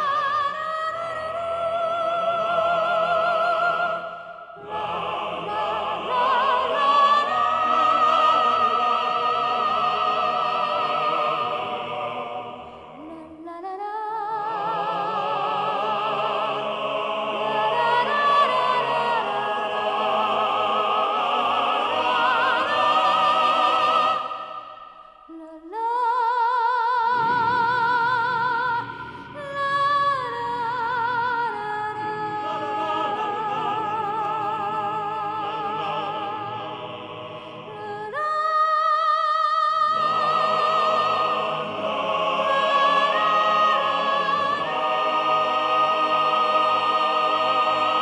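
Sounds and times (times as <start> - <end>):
woman singing opera: 0.0 - 11.4, 13.0 - 16.5, 17.4 - 20.5, 21.9 - 24.3, 25.3 - 36.7, 37.7 - 41.6, 42.3 - 45.2.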